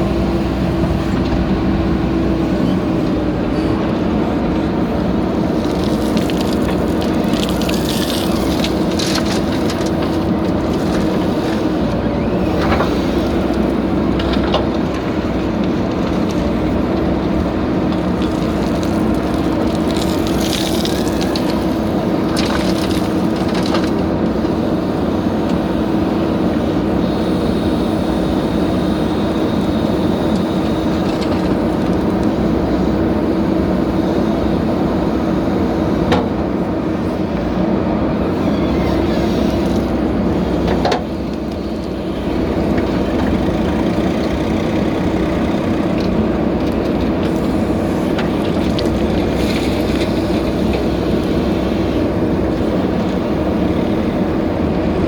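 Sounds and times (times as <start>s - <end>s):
heavy diesel engine humming: 0.0s - 55.0s.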